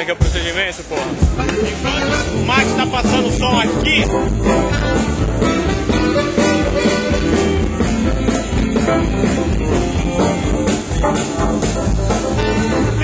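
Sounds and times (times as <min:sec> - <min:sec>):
keyboard: 0:00.0 - 0:13.0
live band through pa: 0:00.0 - 0:13.0.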